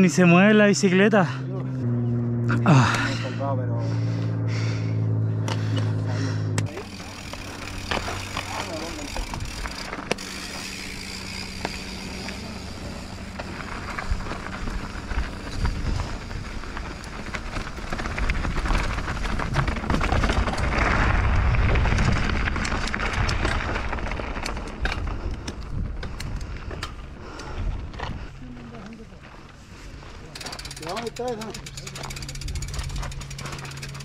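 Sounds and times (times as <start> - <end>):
bike clicks and rattles: 5.4 - 34.0.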